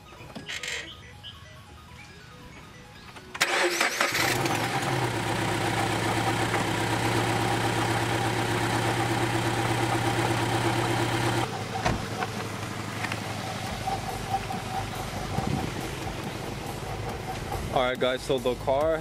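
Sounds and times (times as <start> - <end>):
car engine idling: 3.4 - 19.0.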